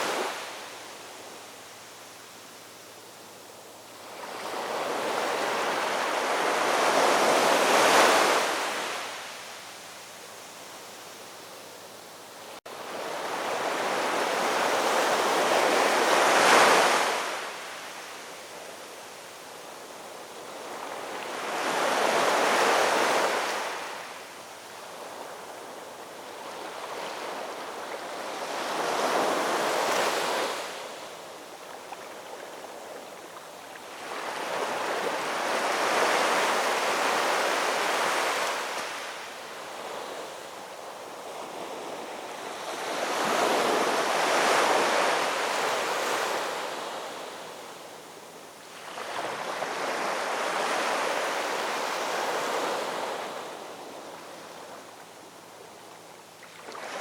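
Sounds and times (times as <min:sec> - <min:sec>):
hiss of surf: 0:00.0 - 0:57.0.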